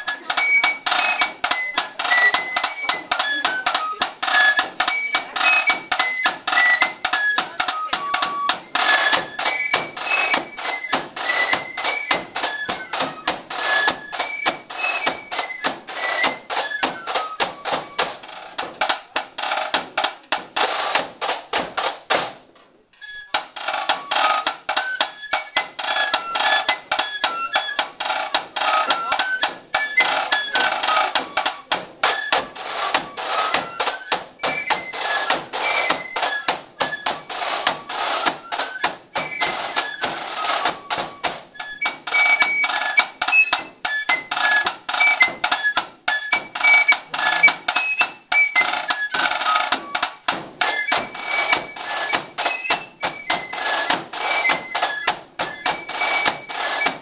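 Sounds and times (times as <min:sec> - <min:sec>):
flute melody: 0:00.0 - 0:19.6, 0:22.9 - 0:57.0
snare drum strokes and rolls: 0:00.0 - 0:57.0.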